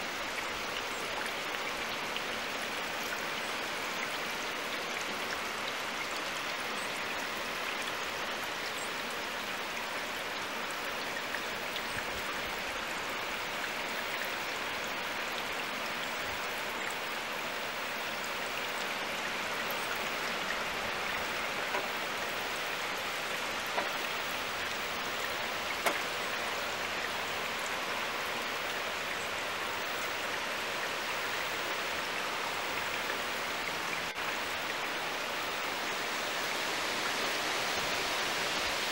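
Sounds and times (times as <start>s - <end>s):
heavy rain hissing: 0.0s - 38.9s
river rushing: 0.0s - 38.9s.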